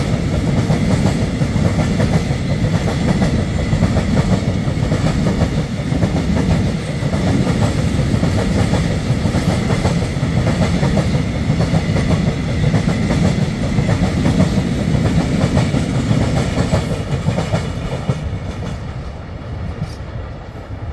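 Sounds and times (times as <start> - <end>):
train wheels clacking on rails: 0.0 - 20.5.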